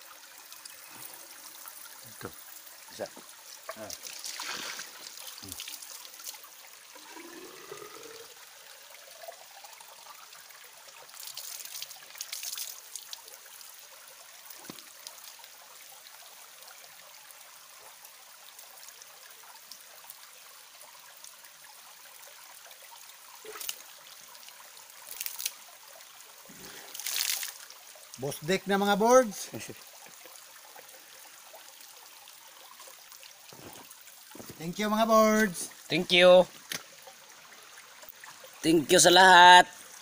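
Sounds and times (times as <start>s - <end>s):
creek water flowing: 0.0s - 40.0s.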